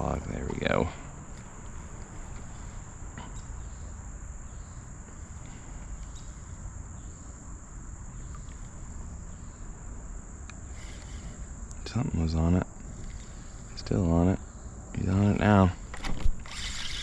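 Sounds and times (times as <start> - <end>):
low outdoor rumble: 0.0 - 16.0
insects trilling: 0.0 - 17.0.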